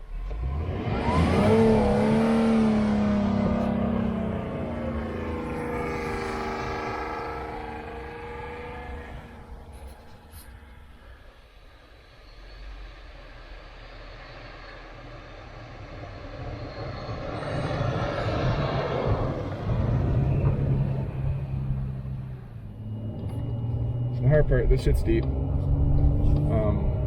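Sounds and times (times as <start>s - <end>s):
truck engine in deep snow: 0.0s - 27.0s.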